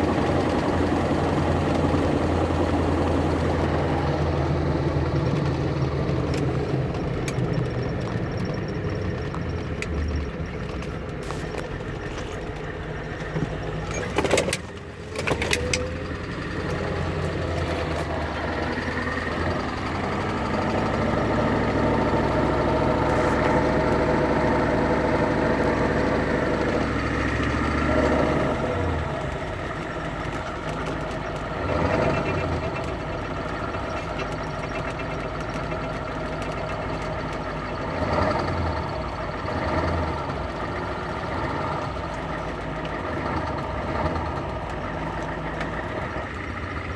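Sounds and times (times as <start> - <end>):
turbocharged car engine running: 0.0 - 46.9.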